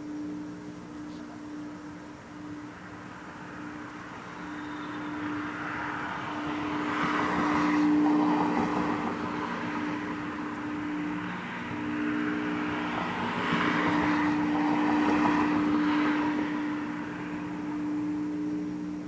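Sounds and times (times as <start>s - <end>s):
low droning hum: 0.0s - 19.0s.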